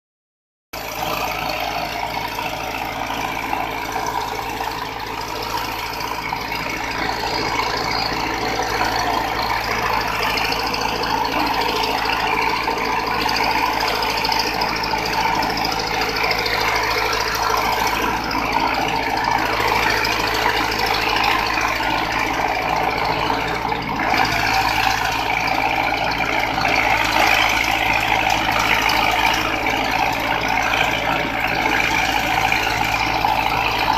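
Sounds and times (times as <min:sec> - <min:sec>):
excavator diesel engine running: 0:00.7 - 0:33.9.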